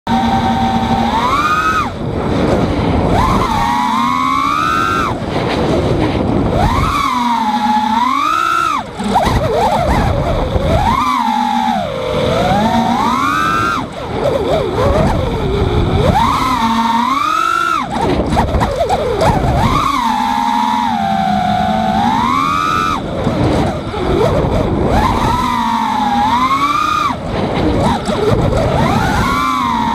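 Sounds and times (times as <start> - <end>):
drone motors whining: 0.1 - 29.9
warbling chirping of drone motors: 0.1 - 29.9
wind noise: 0.1 - 29.9.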